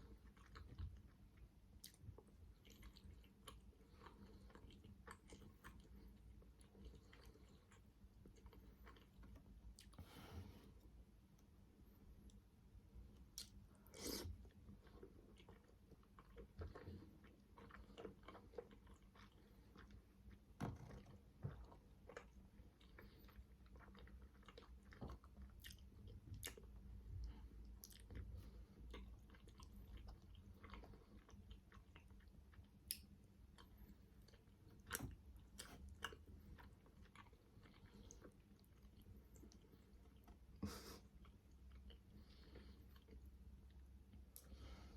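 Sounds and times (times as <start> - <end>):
chewing dumplings: 0.0 - 10.2, 10.8 - 44.9.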